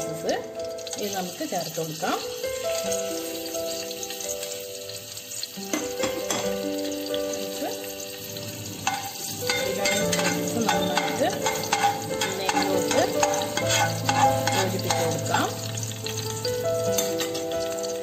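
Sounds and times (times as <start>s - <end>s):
instrumental background music: 0.0s - 18.0s
spices sizzling in hot oil: 0.0s - 18.0s.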